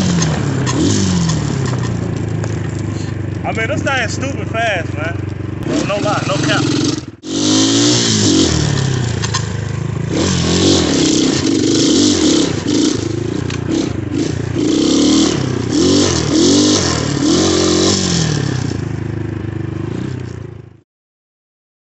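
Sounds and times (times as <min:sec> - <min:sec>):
dirt bike engine revving: 0:00.0 - 0:20.7.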